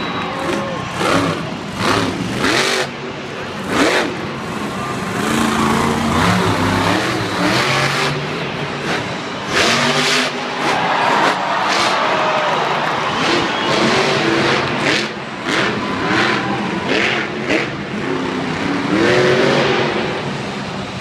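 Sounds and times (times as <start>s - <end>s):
truck engine revving: 0.2s - 12.2s, 12.9s - 21.0s.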